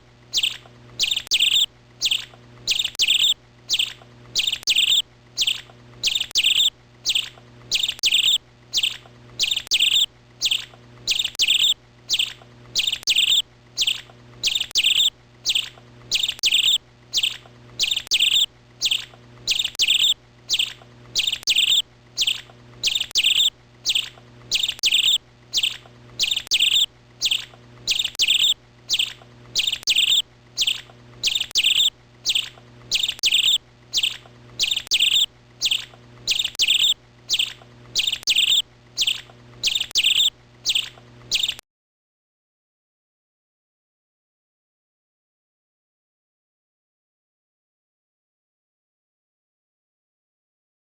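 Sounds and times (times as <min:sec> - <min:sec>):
bird chirping: 0:00.3 - 0:41.6.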